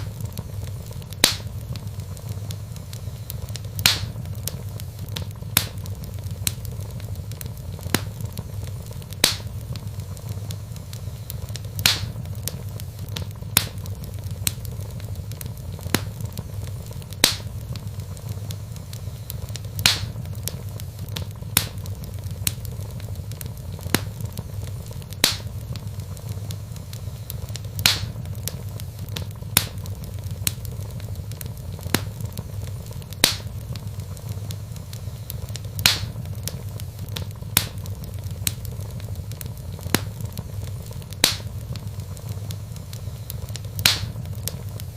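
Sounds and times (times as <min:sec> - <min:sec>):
low rumble of flames: 0:00.0 - 0:44.9
wood fire crackling and popping: 0:00.0 - 0:44.9.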